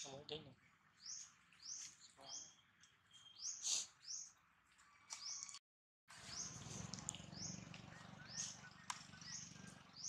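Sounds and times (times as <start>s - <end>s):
bird chirping: 0.0s - 5.6s, 6.2s - 10.0s.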